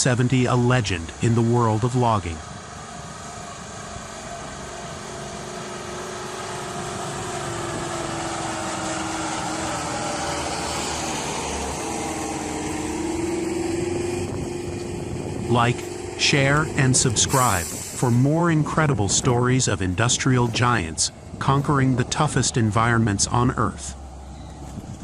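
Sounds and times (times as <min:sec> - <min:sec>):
heavy truck engine running: 0:00.0 - 0:25.0.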